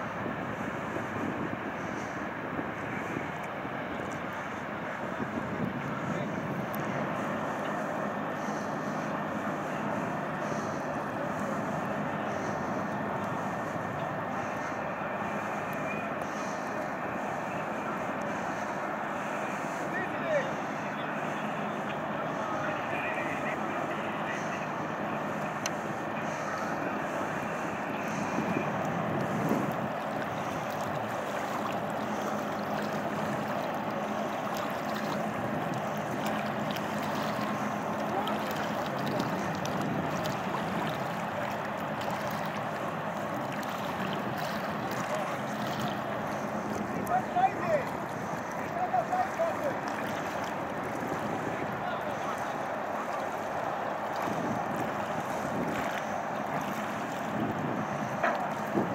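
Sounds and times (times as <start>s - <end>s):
steady engine drone: 0.0s - 58.9s
water rushing: 0.0s - 58.9s
wind: 0.0s - 58.9s.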